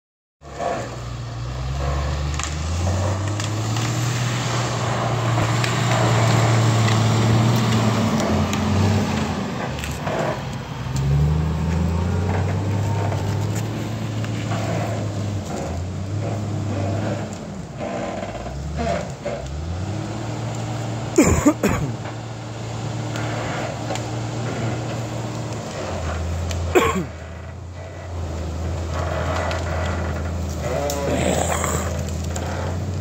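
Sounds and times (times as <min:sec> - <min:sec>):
diesel engine working: 0:00.4 - 0:33.0.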